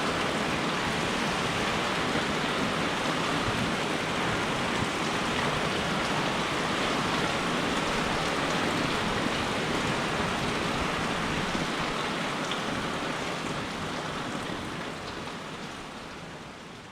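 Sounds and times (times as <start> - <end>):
steady rain falling: 0.0 - 16.9.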